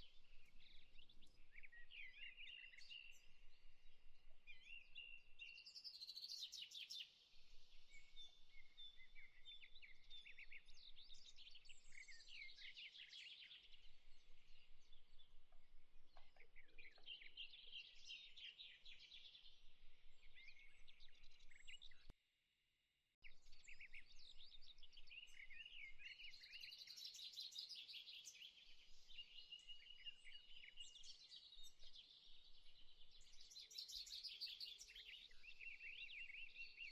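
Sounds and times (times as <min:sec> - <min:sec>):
small birds chirping: 0:00.0 - 0:22.1, 0:23.3 - 0:36.9.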